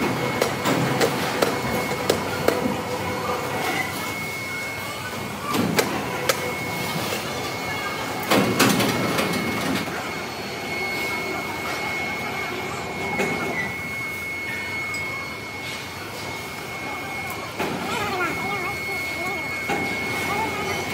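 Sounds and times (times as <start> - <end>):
factory machine drone: 0.0 - 20.9.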